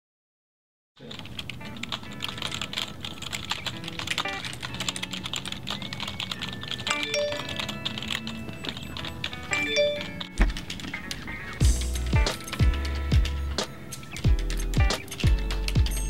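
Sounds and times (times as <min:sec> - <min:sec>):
computer keyboard typing: 0:01.0 - 0:16.0
background music of held notes: 0:01.6 - 0:16.0.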